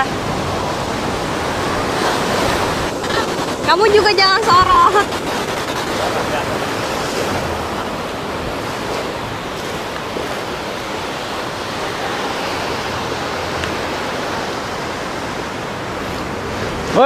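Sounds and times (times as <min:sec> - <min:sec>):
sea surf washing on shore: 0:00.0 - 0:17.0
wind: 0:00.0 - 0:17.0.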